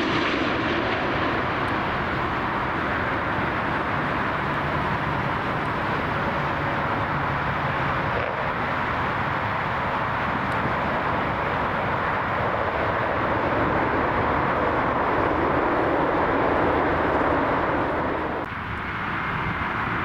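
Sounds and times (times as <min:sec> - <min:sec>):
jet airliner engine rushing: 0:00.0 - 0:20.0.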